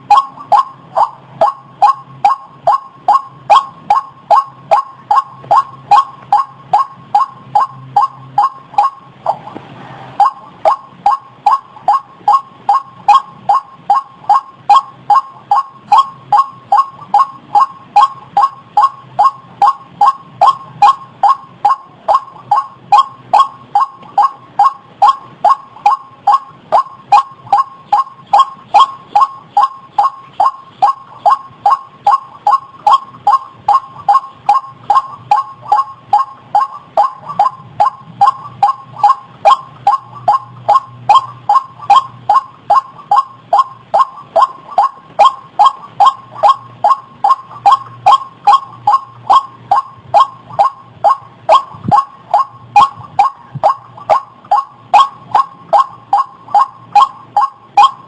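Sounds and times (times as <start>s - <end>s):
waterhen calling: 0.0s - 9.6s, 10.2s - 58.0s.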